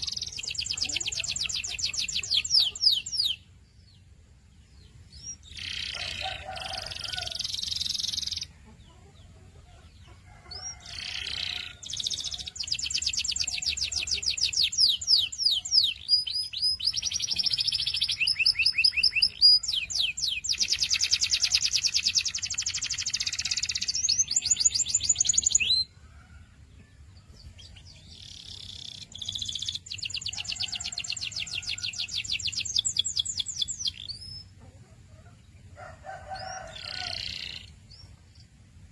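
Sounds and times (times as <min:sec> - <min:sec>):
canary singing trills: 0:00.0 - 0:26.0, 0:27.3 - 0:38.6.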